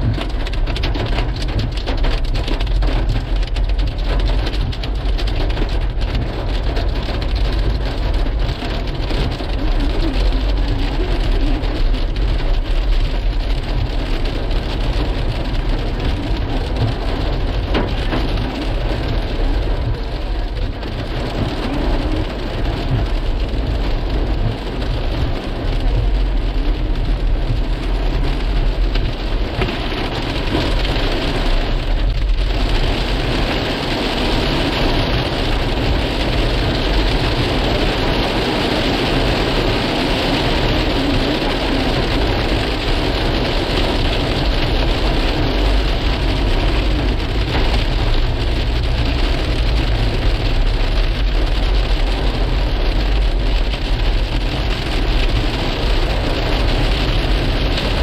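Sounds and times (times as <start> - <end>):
hail and rain pelting: 0.0 - 58.0
low rumble: 0.0 - 58.0.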